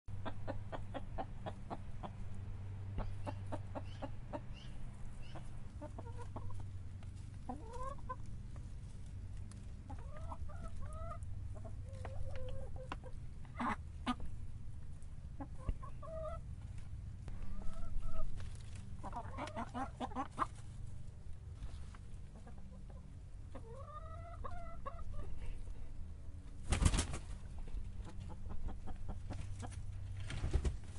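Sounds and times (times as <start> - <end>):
chicken clucking: 0.1 - 25.7, 27.5 - 30.0
steady low hum: 0.1 - 30.9.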